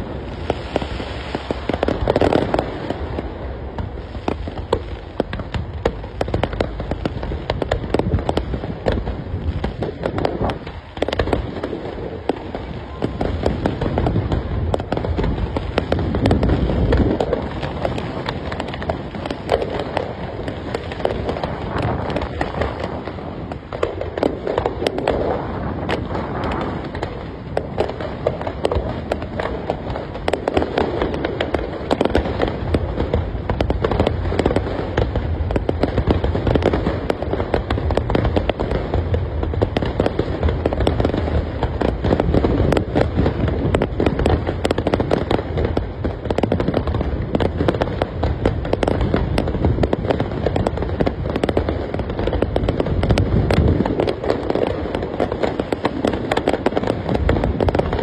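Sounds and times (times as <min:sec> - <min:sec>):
deep fireworks booms: 0:00.0 - 0:58.0
fireworks bangs and crackling: 0:00.0 - 0:58.0.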